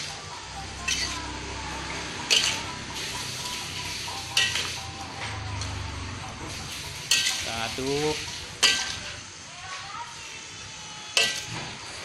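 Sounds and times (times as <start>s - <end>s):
spatula scraping a wok: 0.0s - 5.7s, 6.3s - 12.0s
sauce sizzling: 0.0s - 12.0s.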